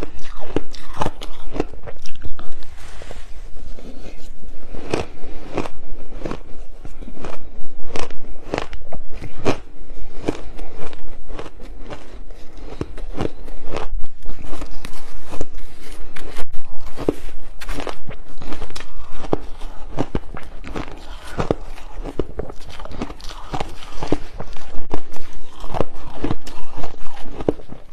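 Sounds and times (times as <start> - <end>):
person crunching ice: 0.0 - 27.9.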